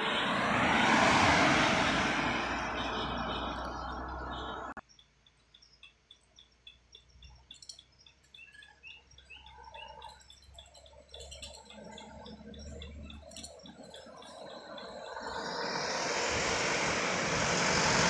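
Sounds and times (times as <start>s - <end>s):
distant truck engine: 0.0s - 4.8s, 5.5s - 18.0s
car engine and tyre noise: 0.0s - 18.0s.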